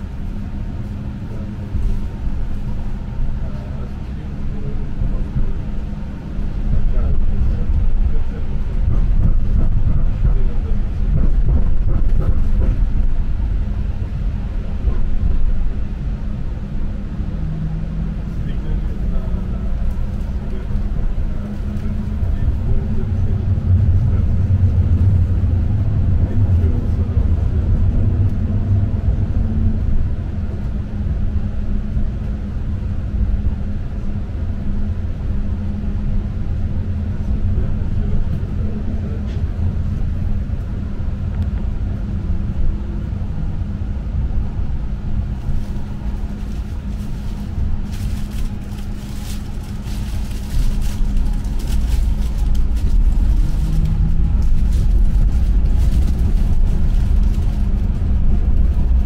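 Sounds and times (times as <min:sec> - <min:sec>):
steady hum: 0:00.0 - 0:59.0
tram rumbling: 0:00.0 - 0:59.0.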